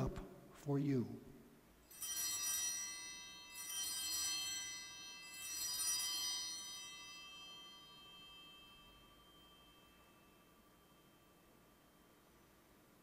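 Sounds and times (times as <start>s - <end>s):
altar bell ringing: 1.8s - 12.6s.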